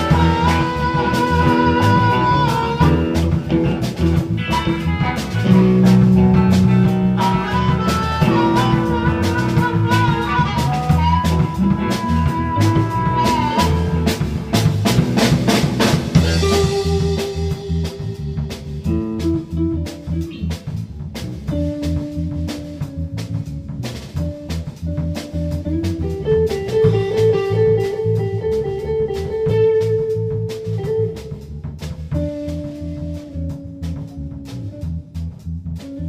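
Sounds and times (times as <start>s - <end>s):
blues band music: 0.0s - 36.0s
guitar lead notes: 0.0s - 36.0s.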